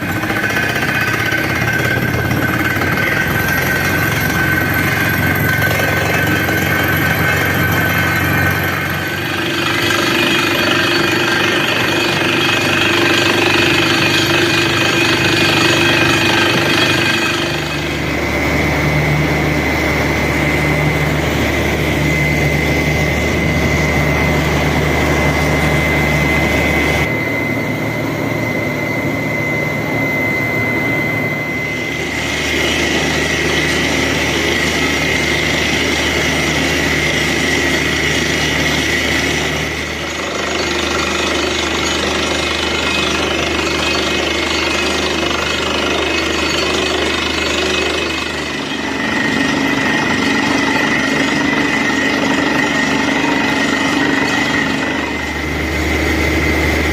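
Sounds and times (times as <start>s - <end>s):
drilling rig engine humming: 0.0s - 56.9s
high whine: 0.0s - 56.9s.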